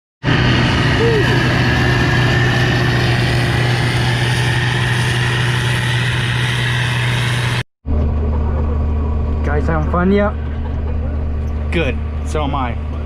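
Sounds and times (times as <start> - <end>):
combine engine drone: 0.2 - 13.0
steady high whine: 0.2 - 13.0.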